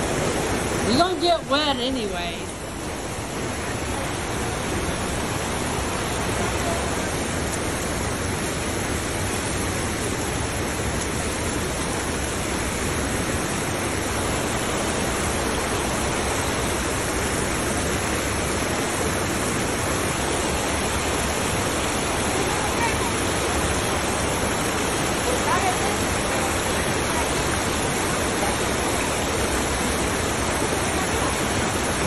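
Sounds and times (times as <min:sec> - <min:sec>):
creek rushing over rocks: 0:00.0 - 0:32.0.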